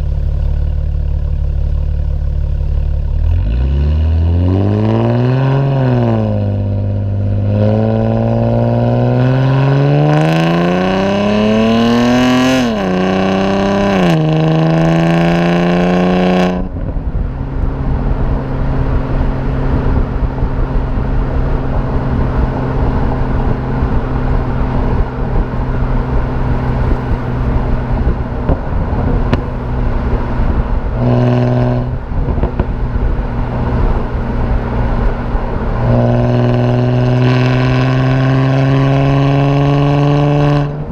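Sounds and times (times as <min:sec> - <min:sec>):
car engine accelerating: 0:00.0 - 0:40.9
low exhaust drone: 0:00.0 - 0:40.9
wind and road noise: 0:00.0 - 0:40.9.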